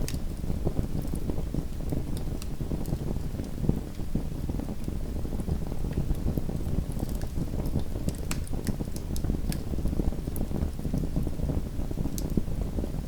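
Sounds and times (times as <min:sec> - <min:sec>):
wood fire crackling and popping: 0:00.0 - 0:12.9.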